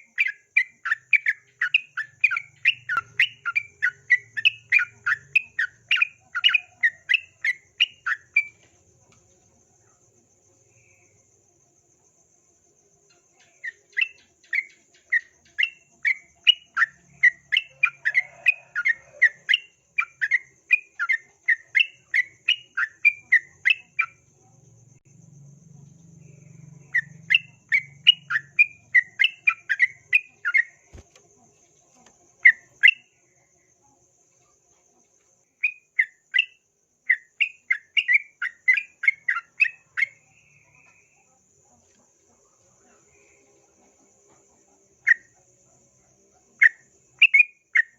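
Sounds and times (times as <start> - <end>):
bulbul chirping song: 0.0 - 9.2, 13.0 - 24.6, 26.0 - 34.2, 35.0 - 47.9.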